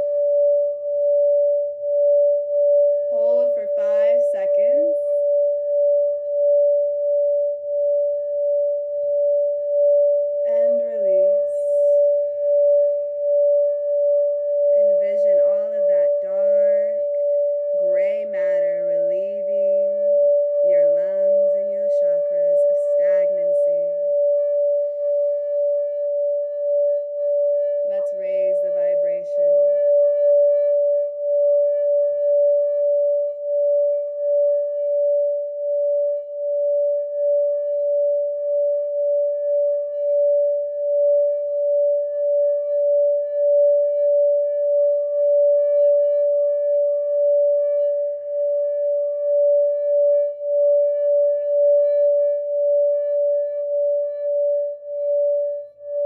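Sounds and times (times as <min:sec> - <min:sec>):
singing bowl sustained tone: 0:00.0 - 0:56.0.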